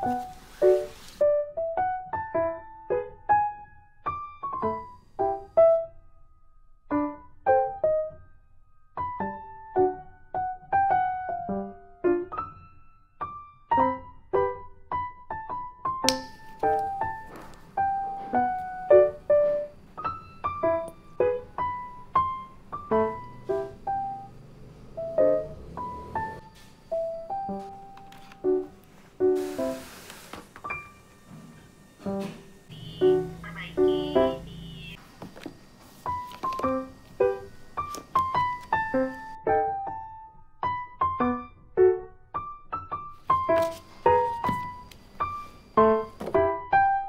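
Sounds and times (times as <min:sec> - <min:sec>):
gentle piano melody: 0:00.0 - 0:47.0.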